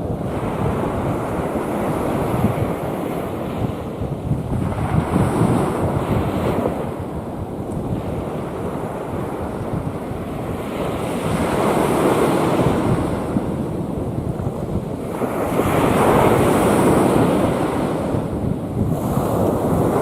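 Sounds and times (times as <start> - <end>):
rough sea waves breaking: 0.0 - 20.0
wind buffeting microphone: 0.0 - 20.0.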